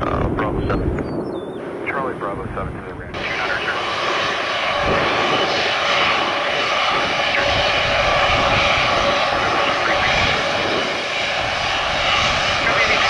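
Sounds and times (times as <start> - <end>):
jet airliner engines running: 0.0 - 13.0.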